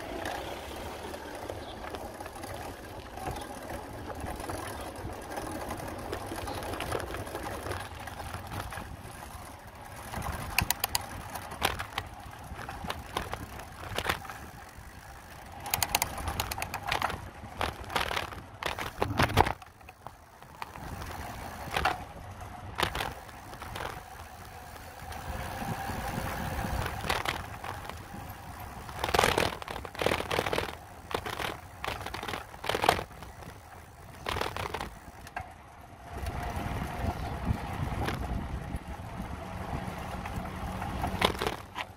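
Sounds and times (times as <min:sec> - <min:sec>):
bicycle rattling over bumps: 0:00.0 - 0:41.9
bicycle tyre rumble: 0:00.0 - 0:41.9.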